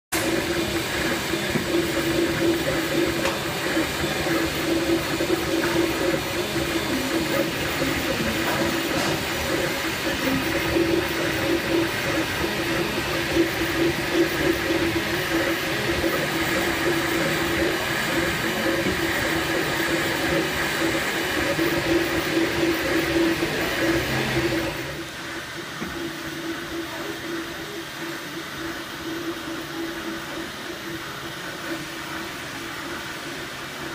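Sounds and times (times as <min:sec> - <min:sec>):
cooling fans hissing: 0:00.1 - 0:33.9
stepper motors humming: 0:00.2 - 0:33.9.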